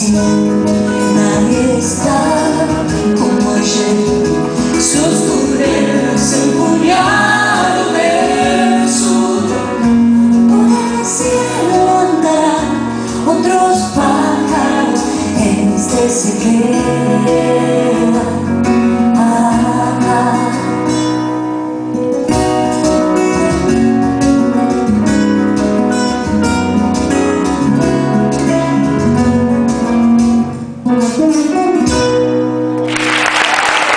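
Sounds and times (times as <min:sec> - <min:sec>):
live band with acoustic guitar: 0:00.0 - 0:33.9.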